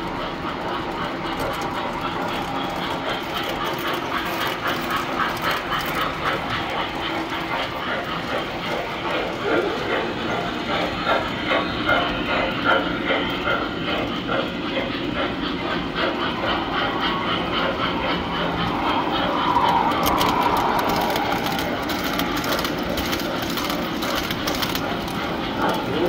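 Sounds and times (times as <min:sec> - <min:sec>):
model trains running: 0:00.0 - 0:26.0
wheels clicking over rail joints: 0:00.0 - 0:26.0.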